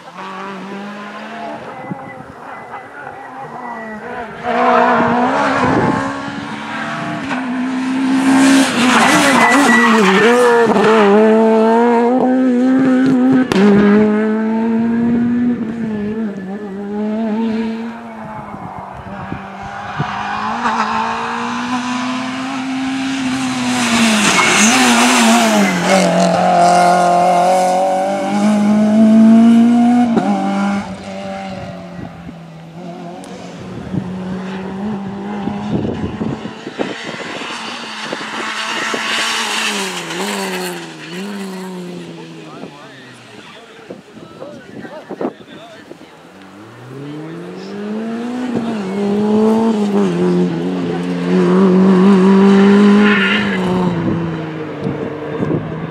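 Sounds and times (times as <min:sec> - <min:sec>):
rally cars accelerating: 0:00.0 - 0:55.9.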